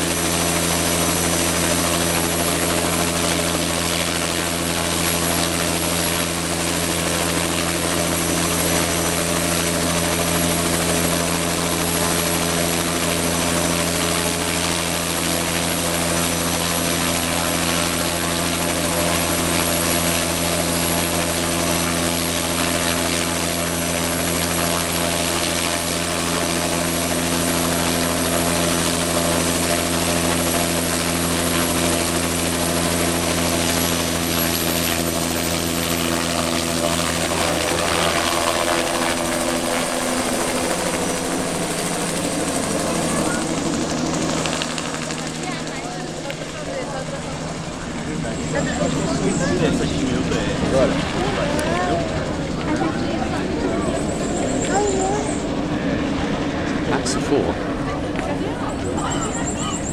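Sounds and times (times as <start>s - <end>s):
helicopter turbine and rotor running: 0.0s - 59.9s.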